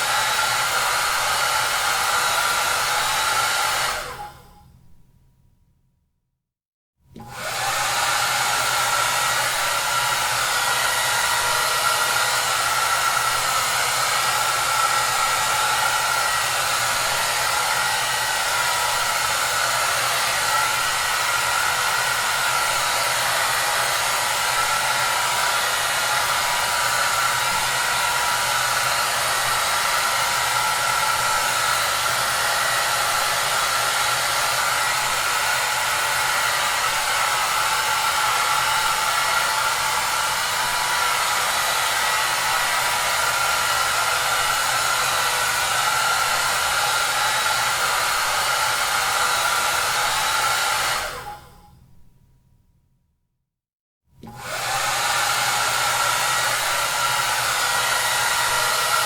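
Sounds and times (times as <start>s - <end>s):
hair dryer running: 0.0s - 4.5s, 7.1s - 51.6s, 54.2s - 59.0s.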